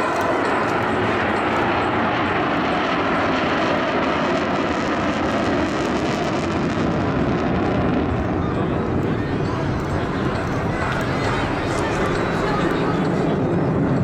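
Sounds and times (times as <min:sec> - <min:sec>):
biplane radial engine running: 0:00.0 - 0:14.0.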